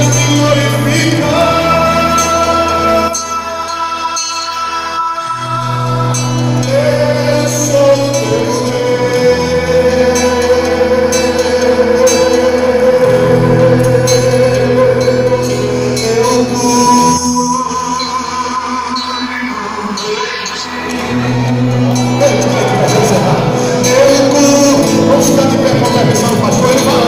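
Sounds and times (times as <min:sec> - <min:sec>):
gospel band playing: 0:00.0 - 0:27.0
person singing: 0:00.0 - 0:27.0.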